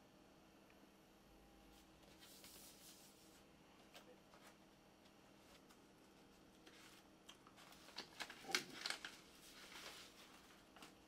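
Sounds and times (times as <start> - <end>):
vinyl record sleeves rustling: 1.7 - 11.0.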